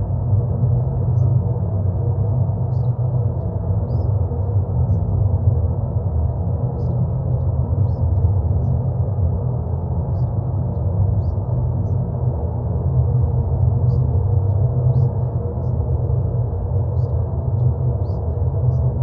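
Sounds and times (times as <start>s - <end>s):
deep droning noise: 0.0s - 19.0s.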